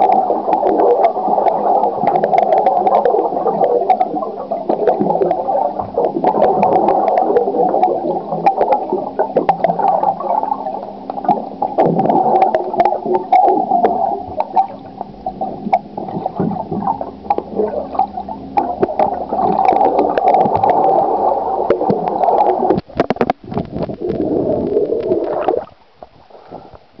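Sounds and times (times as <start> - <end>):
small clicks and pops of bubbles: 0.0 - 26.2
muffled underwater gurgling: 0.0 - 27.0.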